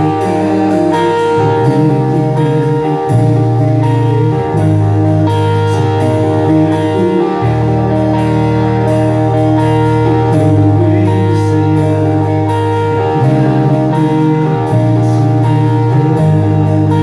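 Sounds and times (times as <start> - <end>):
electric bass: 0.0 - 17.0
electric guitars: 0.0 - 17.0.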